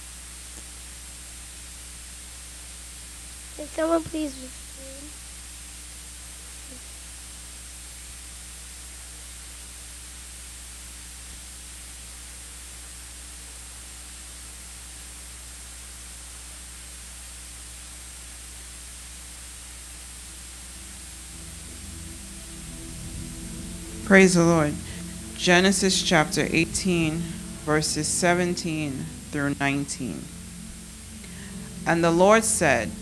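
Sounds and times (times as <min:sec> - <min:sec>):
low electrical mains hum: 0:00.0 - 0:33.0
steady hiss: 0:00.0 - 0:33.0.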